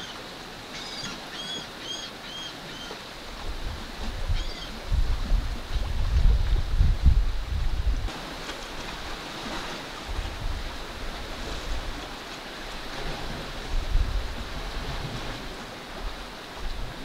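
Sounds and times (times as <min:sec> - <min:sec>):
wind gusts rumbling on microphone: 0:03.2 - 0:17.0.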